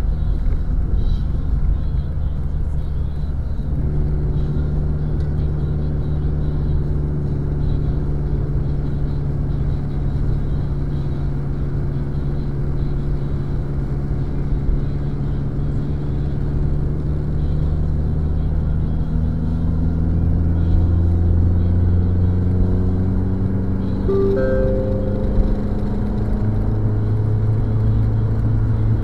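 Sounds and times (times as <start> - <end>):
car engine droning: 0.0 - 29.0.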